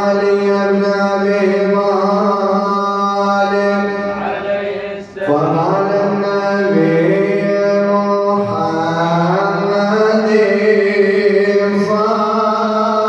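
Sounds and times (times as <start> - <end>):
man chanting into microphone: 0.0 - 13.0.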